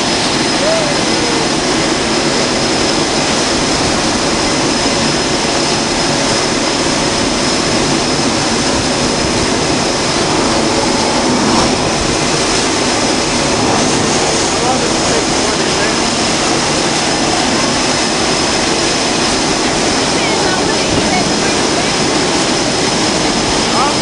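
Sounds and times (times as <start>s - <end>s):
jet engines running: 0.0s - 24.0s
thin high whine: 0.0s - 24.0s.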